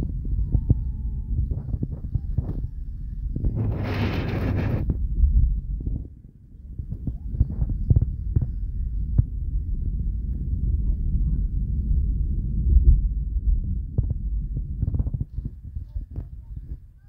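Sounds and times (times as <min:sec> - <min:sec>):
road and wind rumble in car: 0:00.0 - 0:17.0.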